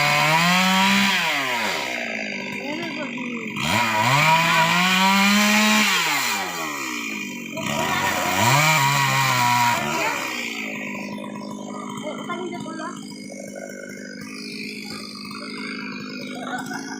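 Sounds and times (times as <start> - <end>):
chainsaw engine revving: 0.0 - 16.9.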